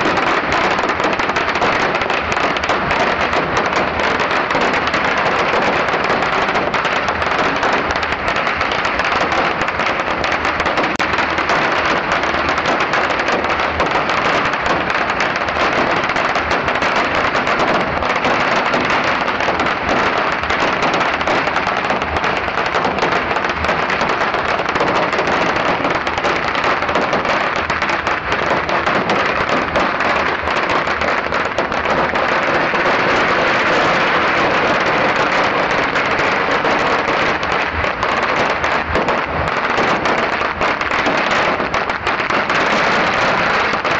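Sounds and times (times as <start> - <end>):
firecrackers crackling: 0.0 - 43.9.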